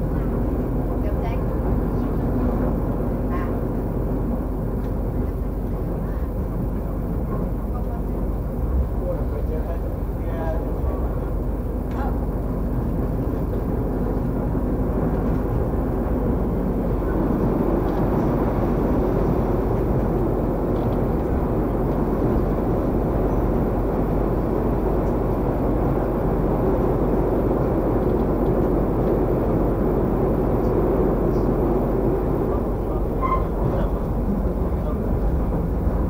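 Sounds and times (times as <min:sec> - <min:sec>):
train running rumble: 0:00.0 - 0:36.0.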